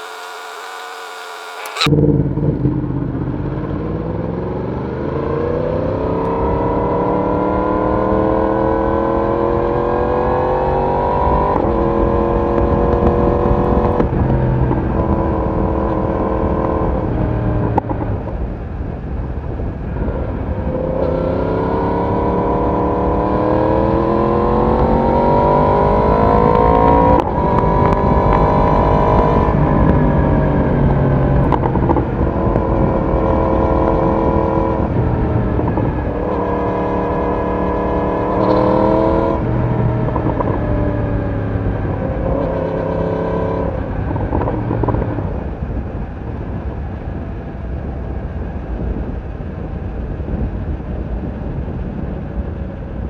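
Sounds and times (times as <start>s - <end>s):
motorcycle engine accelerating: 0.0s - 19.0s, 19.6s - 53.0s.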